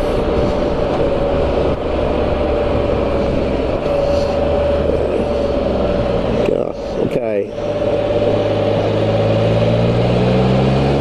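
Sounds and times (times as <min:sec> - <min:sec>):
motorcycle engine droning: 0:00.0 - 0:11.0
wind and road noise: 0:00.0 - 0:11.0.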